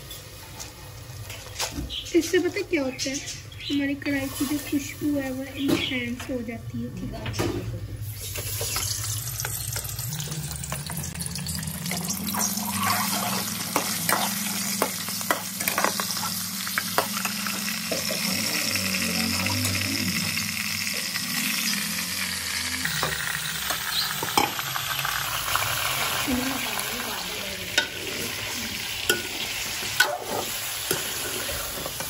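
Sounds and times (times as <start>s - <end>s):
chicken sizzling in hot oil: 3.7s - 6.1s, 8.0s - 32.0s.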